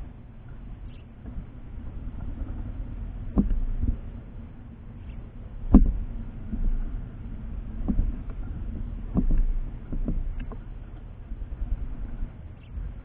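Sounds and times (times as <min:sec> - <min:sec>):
birds pecking: 0:00.0 - 0:13.0
steady low rumble: 0:00.0 - 0:13.0.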